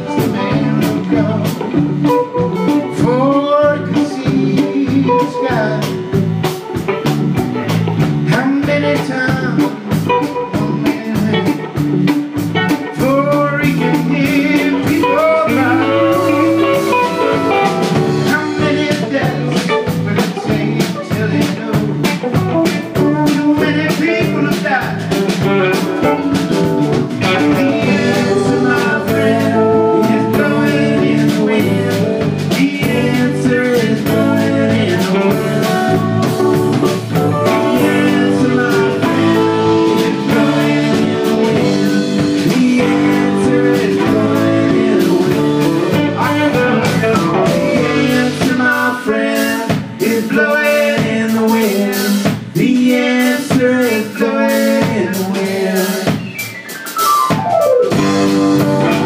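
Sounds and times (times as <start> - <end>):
gliding guitar lead line: 0.0 - 8.4, 9.8 - 23.2, 24.4 - 48.6, 56.8 - 59.0
live electric band playing: 0.0 - 59.0
steady drum beat: 0.0 - 59.0.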